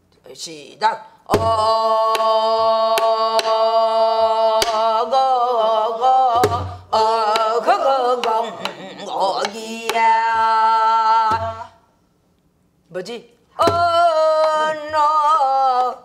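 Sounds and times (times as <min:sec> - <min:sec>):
woman singing folk song: 0:01.3 - 0:11.9, 0:13.2 - 0:16.0.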